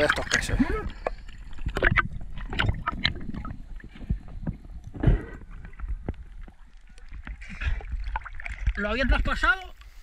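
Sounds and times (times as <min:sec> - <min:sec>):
seawater sloshing and gurgling: 0:00.0 - 0:09.5.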